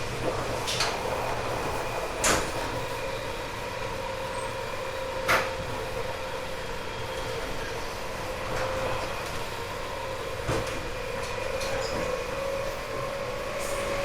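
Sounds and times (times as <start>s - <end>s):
traction motor whine: 0.0s - 14.0s
train running noise: 0.0s - 14.0s.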